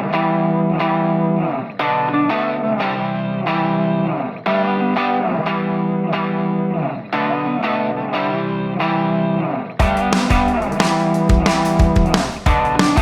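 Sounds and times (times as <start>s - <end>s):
guitar chords strummed: 0.0s - 13.0s.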